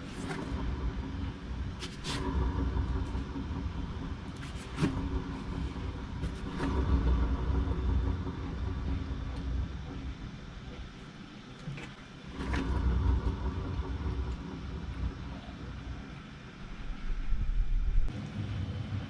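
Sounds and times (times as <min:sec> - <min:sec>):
bearing hum drone: 0:00.0 - 0:19.0.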